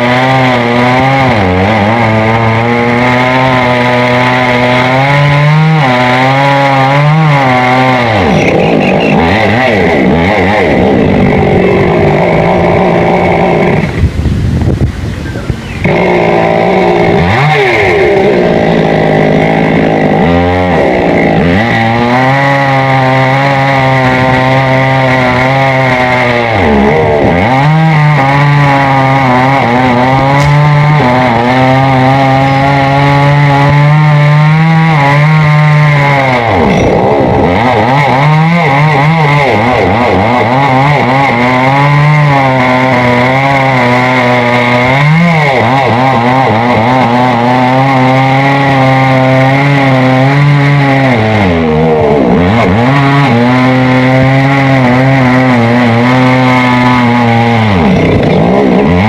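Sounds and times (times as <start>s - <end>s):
chainsaw cutting wood: 0.0s - 14.8s, 15.8s - 59.0s.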